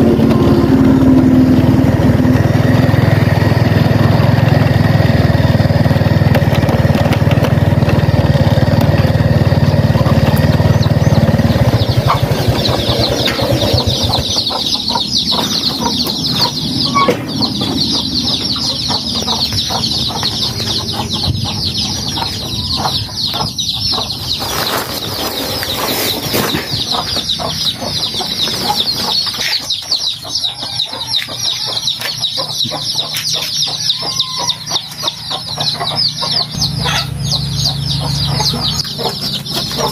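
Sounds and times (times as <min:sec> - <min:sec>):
chickens clucking: 0:00.0 - 0:39.9
chicks cheeping: 0:00.0 - 0:39.9
small engine running: 0:00.0 - 0:39.9.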